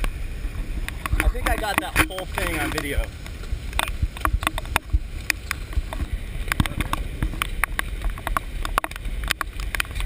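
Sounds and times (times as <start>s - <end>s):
handling noise on camera case: 0.0s - 10.0s.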